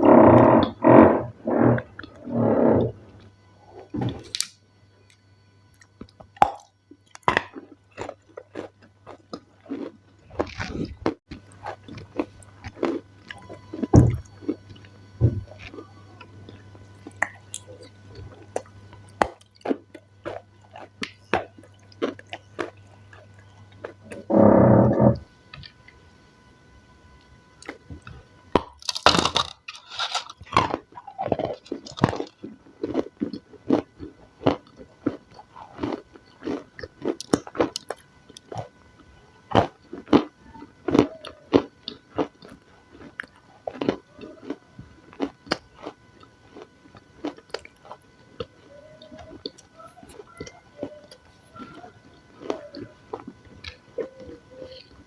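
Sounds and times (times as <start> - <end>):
chewing crunchy salad: 5.7 - 24.3, 27.6 - 55.0.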